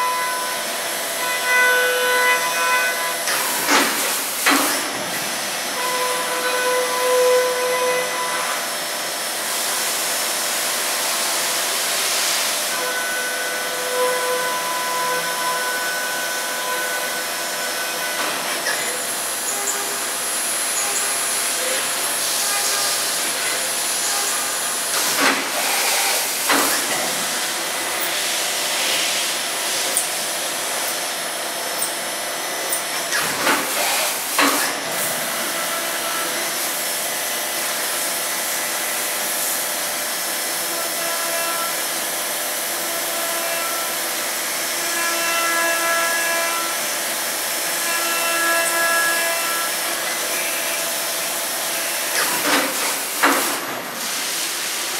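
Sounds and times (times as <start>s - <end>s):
coolant spray and cutting hiss: 8.6s - 45.2s, 46.2s - 54.9s.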